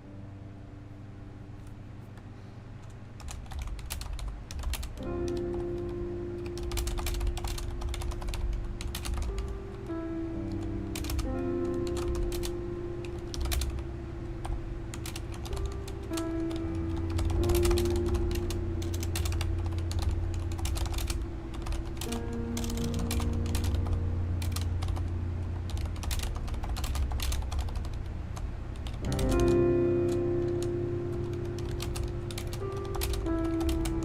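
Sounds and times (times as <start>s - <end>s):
slow background music: 0.0s - 34.0s
mechanical keyboard typing: 2.8s - 13.8s, 14.4s - 28.2s, 28.8s - 34.0s.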